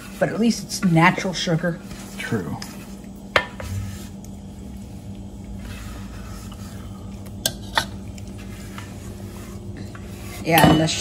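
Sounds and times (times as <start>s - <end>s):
spatula scraping metal bowl: 0.0s - 4.2s, 5.6s - 11.0s.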